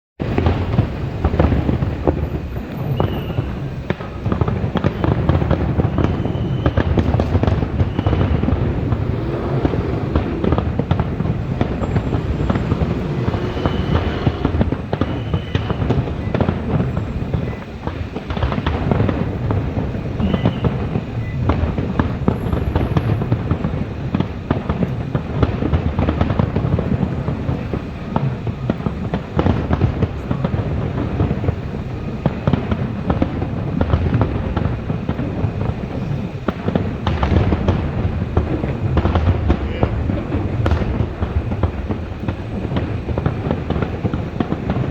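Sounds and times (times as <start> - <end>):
fireworks bangs and crackling: 0.2 - 44.9
fireworks high whistles: 0.2 - 44.9.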